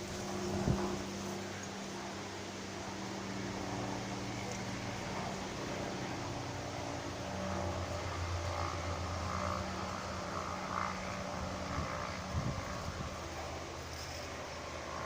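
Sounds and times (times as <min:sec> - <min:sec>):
low steady hum: 0:00.0 - 0:15.0
wind blowing: 0:00.0 - 0:15.0.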